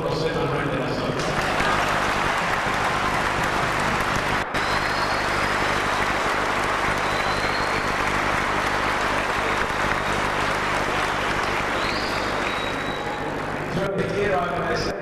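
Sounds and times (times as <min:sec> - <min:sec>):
large audience applauding: 0:01.2 - 0:14.1.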